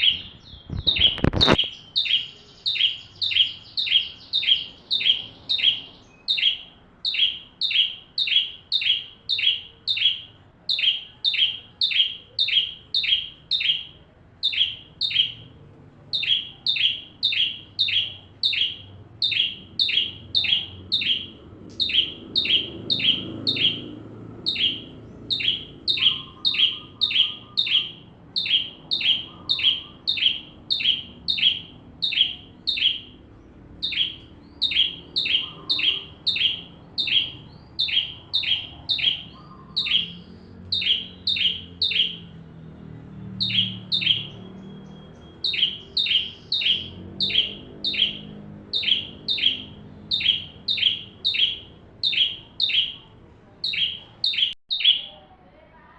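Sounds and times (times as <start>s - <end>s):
songbird high chirps: 0.0s - 55.2s.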